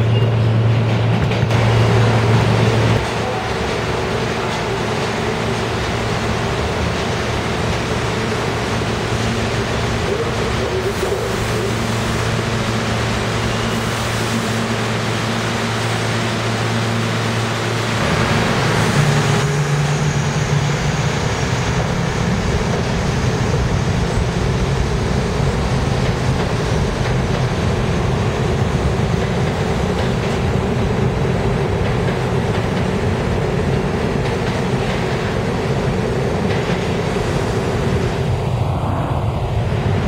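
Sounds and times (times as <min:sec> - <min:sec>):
standing train humming: 0:00.0 - 0:40.0
train wheels rumbling on rails: 0:00.0 - 0:40.0.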